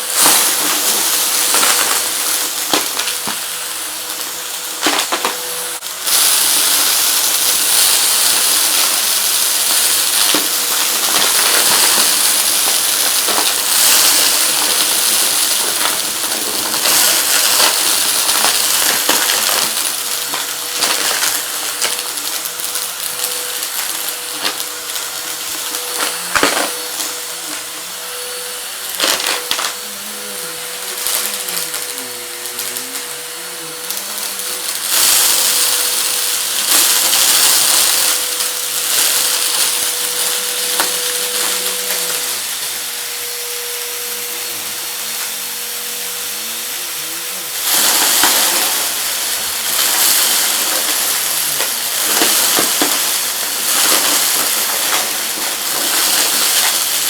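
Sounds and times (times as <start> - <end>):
debris rattling through vacuum: 0.0 - 57.0
vacuum cleaner running: 0.0 - 57.0.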